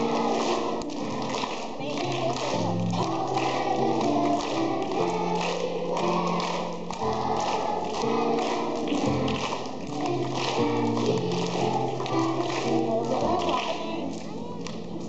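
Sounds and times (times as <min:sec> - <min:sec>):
hand claps: 0:00.0 - 0:14.9
children's choir singing: 0:00.0 - 0:15.0
musical accompaniment: 0:00.0 - 0:15.0.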